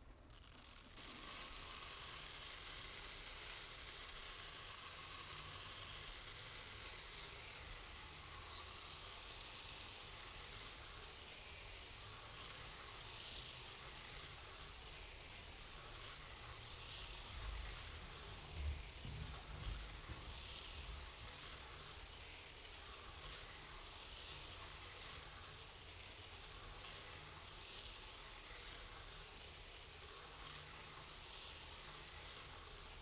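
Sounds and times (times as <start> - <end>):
rice grains pouring onto floor: 0.2 - 33.0.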